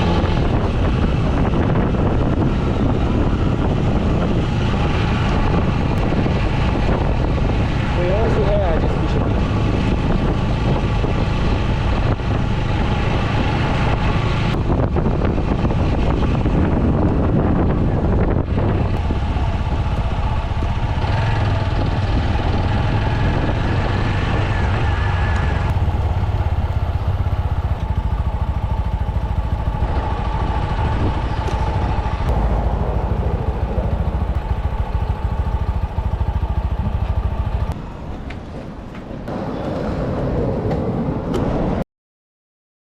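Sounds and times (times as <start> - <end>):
motorcycle engine running: 0.0 - 37.8
wind noise on microphone: 0.0 - 37.8.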